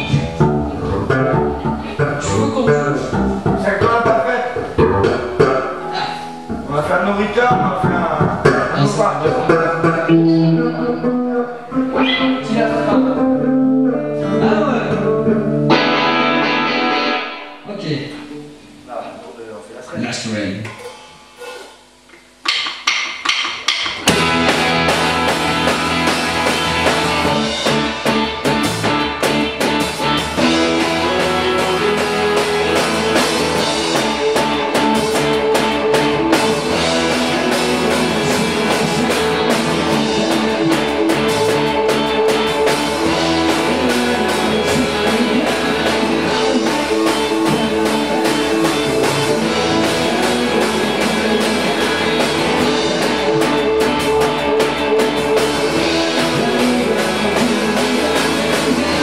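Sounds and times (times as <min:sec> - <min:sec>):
electric guitar: 0:00.0 - 0:18.9, 0:23.9 - 0:59.0
drum kit: 0:00.0 - 0:19.0, 0:20.6 - 0:59.0.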